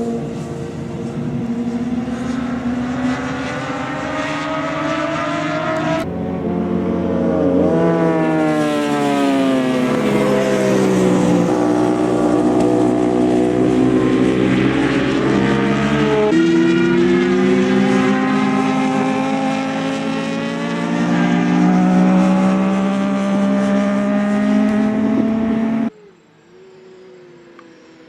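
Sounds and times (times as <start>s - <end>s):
racing motorcycle engines revving: 0.0s - 25.9s.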